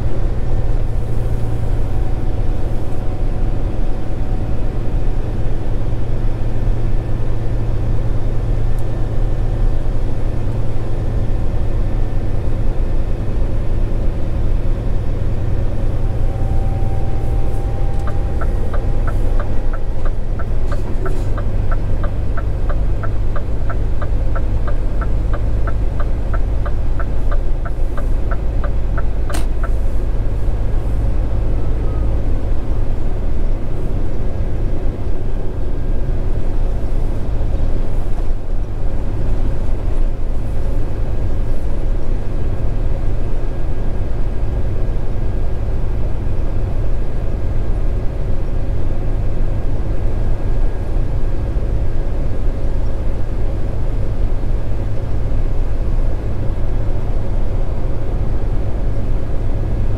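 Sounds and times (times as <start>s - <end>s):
road rumble: 0.0s - 59.9s
truck diesel engine running: 0.0s - 59.9s.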